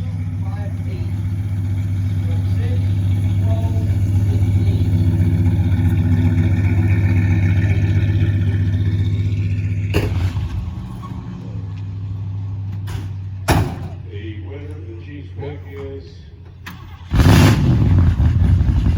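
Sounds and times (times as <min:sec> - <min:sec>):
car engine running steadily: 0:00.0 - 0:18.9.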